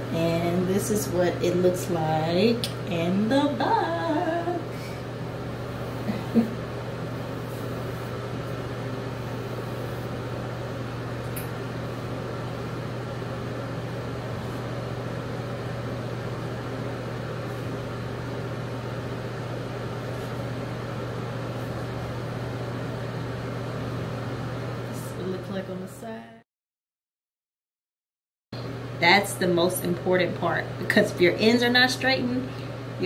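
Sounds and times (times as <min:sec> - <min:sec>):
ventilation fan running: 0:00.0 - 0:26.4, 0:28.6 - 0:33.0.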